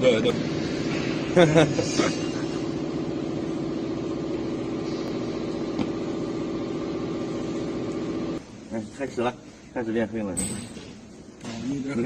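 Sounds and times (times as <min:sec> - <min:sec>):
low machine hum: 0:00.0 - 0:09.7.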